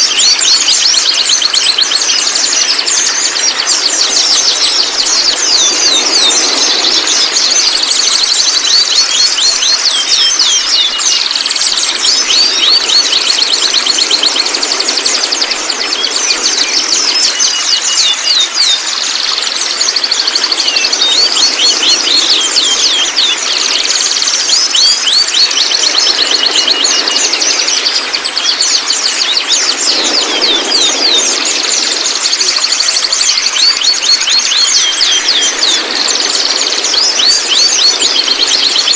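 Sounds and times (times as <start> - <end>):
bird chattering calls: 0.0 - 38.9
thin steady high tone: 0.0 - 38.9.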